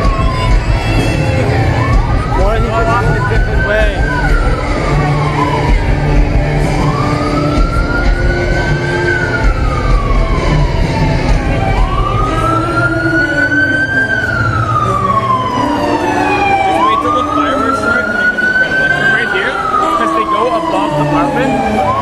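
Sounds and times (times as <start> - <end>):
ambulance siren wailing: 0.0 - 22.0
large crowd noise: 0.0 - 22.0.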